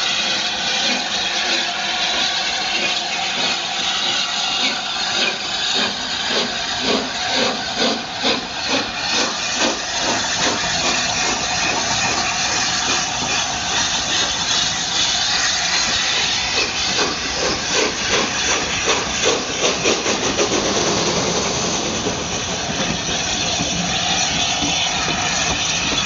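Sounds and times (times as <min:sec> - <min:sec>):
steam hissing: 0:00.0 - 0:26.0
steam locomotive exhaust beats: 0:00.0 - 0:26.0.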